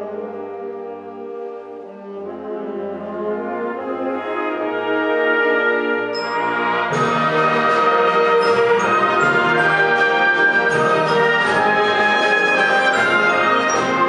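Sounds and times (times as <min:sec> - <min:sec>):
sustained brass chords: 0:00.0 - 0:14.0
wind band playing: 0:00.0 - 0:14.0.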